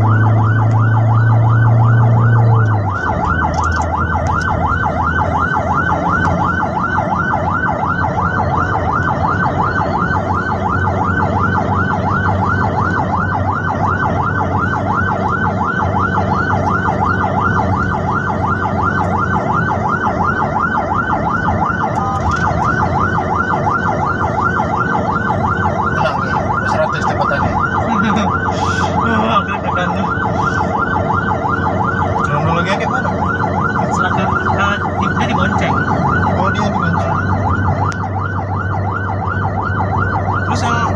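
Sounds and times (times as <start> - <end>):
ambulance siren yelping: 0.0 - 40.9
engine and road noise: 0.0 - 40.9.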